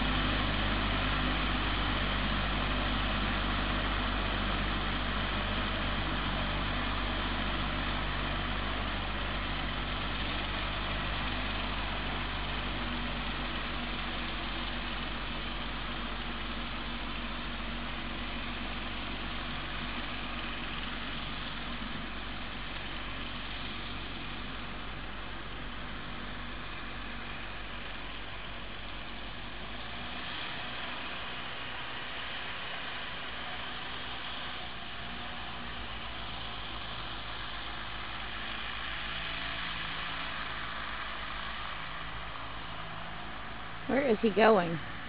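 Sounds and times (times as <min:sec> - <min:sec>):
garden tractor engine running: 0:00.0 - 0:45.0.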